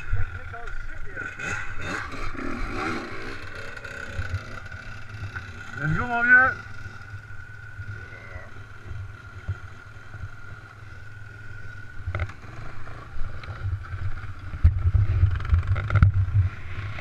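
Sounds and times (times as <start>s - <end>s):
motorcycle engine running low: 0.0s - 17.0s.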